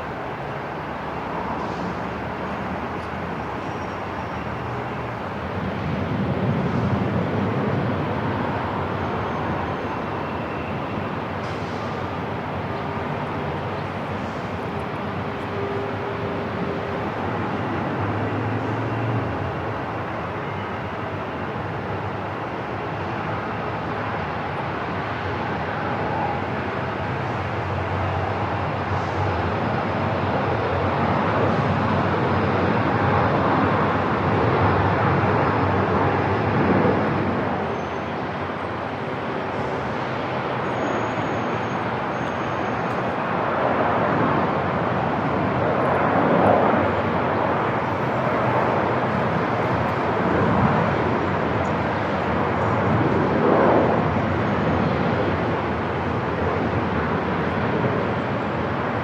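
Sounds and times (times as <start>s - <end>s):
airport ambience: 0.0s - 59.0s.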